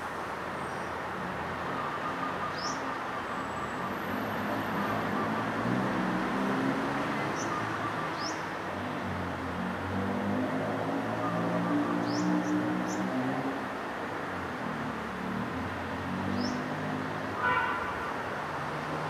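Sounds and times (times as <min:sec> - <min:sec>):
city road traffic hum: 0:00.0 - 0:19.0.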